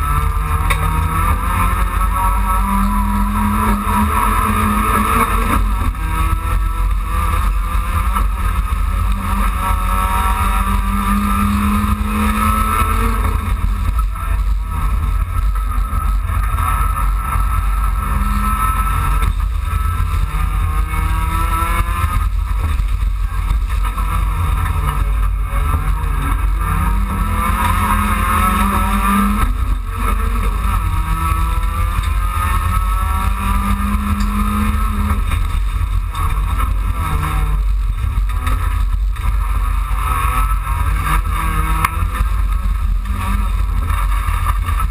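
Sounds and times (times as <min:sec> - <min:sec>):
race car engine revving: 0:00.0 - 0:44.9
tyre and road rumble: 0:00.0 - 0:44.9.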